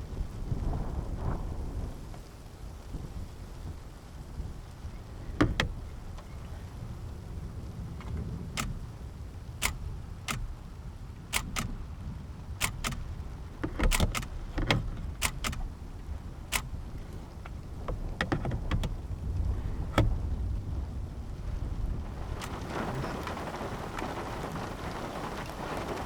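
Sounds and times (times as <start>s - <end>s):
wind rumbling on microphone: 0.0s - 26.0s
raindrops ticking on hard surface: 2.1s - 26.0s.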